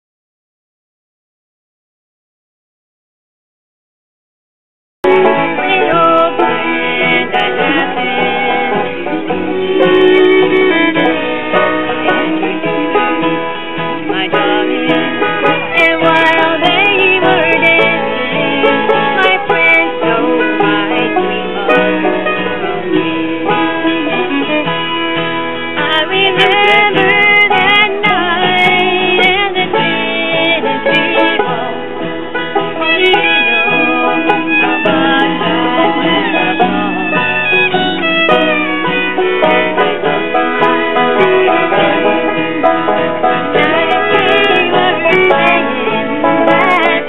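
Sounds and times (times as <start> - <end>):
bluegrass banjo and fiddle music: 5.0 - 47.0.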